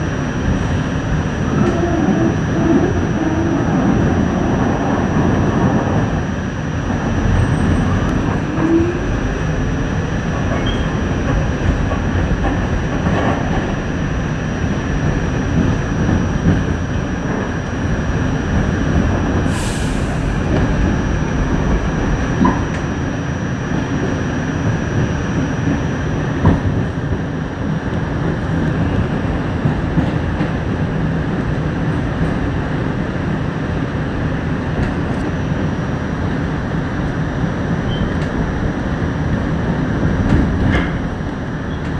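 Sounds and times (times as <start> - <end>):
subway wheels rumbling on rail: 0.0 - 41.9.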